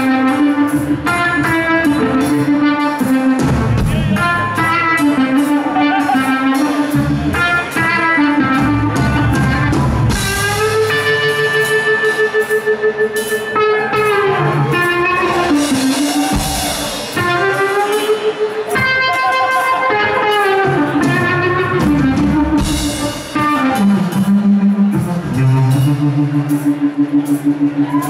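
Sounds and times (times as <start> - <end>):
drum kit: 0.0 - 28.0
overdriven electric guitar lead: 0.0 - 28.0.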